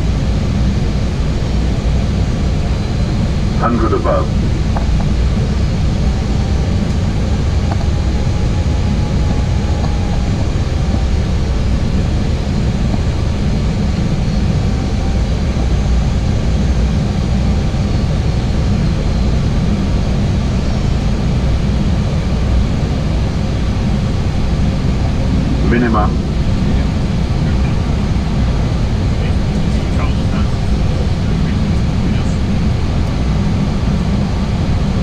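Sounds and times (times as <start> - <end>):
cockpit airflow rumble: 0.0 - 35.0.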